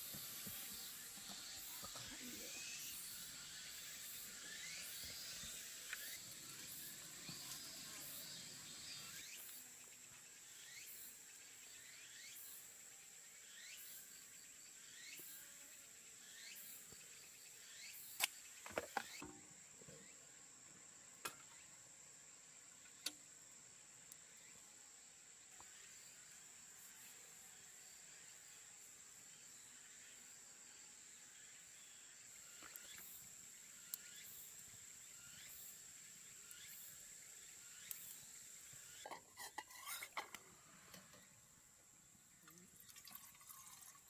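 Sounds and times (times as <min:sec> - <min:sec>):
insects droning and chirping: 0:00.0 - 0:44.0.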